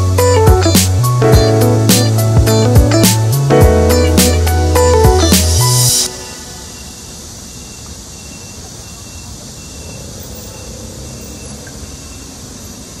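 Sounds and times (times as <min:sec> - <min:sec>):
street noise: 0:00.0 - 0:13.0
thin high whine: 0:00.1 - 0:12.4.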